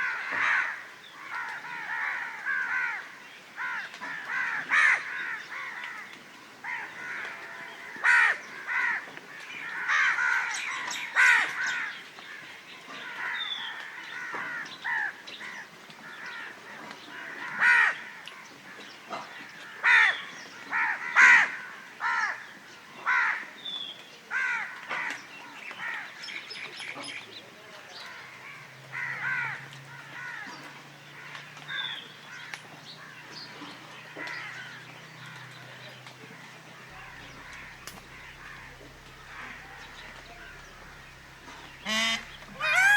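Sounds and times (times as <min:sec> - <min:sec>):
crows cawing: 0:00.0 - 0:23.6, 0:24.3 - 0:26.3, 0:27.9 - 0:42.9.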